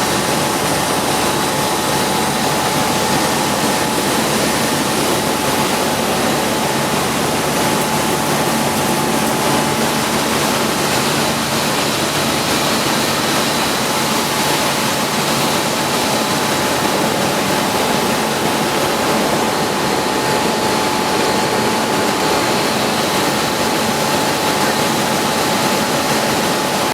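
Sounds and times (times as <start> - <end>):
steady high whine: 0.0 - 26.9.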